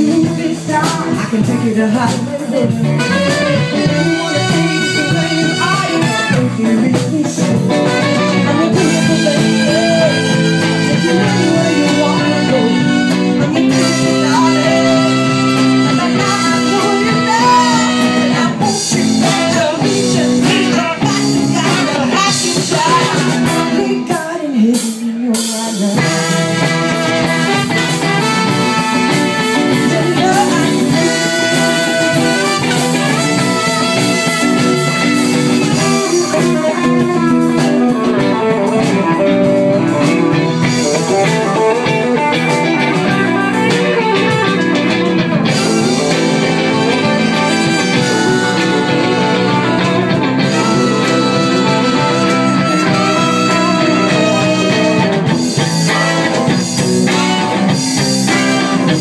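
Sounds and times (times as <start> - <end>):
woman singing: 0.0 - 26.7, 28.1 - 55.2
live band playing: 0.0 - 59.0.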